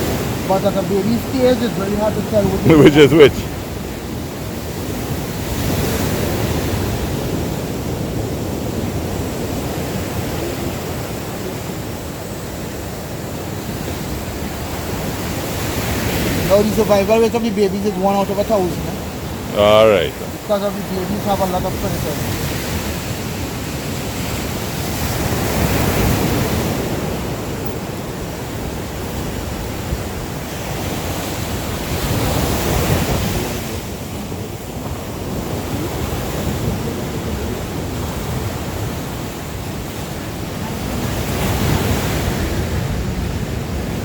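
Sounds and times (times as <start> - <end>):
surf breaking on a beach: 0.0 - 44.0
wind buffeting the microphone: 0.0 - 44.0.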